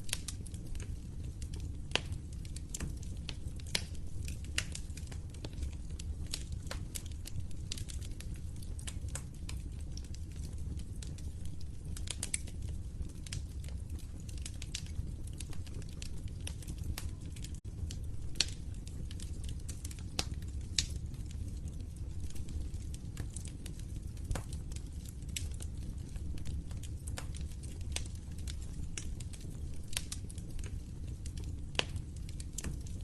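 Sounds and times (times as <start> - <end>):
low rumble of flames: 0.0 - 33.0
wood fire pops and snaps: 0.0 - 33.0.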